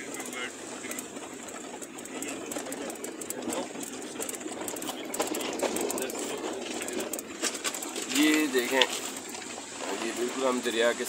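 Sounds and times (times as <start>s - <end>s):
road noise: 0.0s - 11.0s
vehicle body rattling and knocking: 0.0s - 11.0s.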